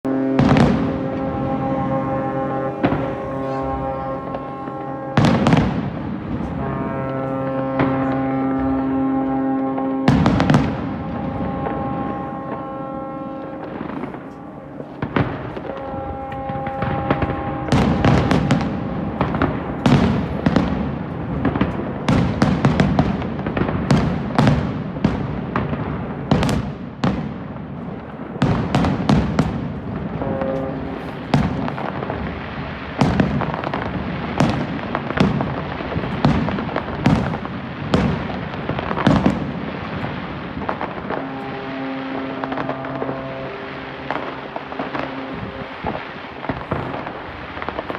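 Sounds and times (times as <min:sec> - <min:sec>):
fireworks cracks and bangs: 0:00.0 - 0:47.9
low rumble of echoing booms: 0:00.1 - 0:47.9.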